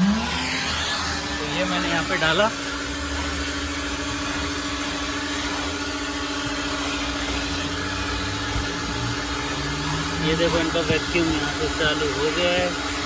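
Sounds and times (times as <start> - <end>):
vacuum cleaner suction hiss: 0.0 - 13.0.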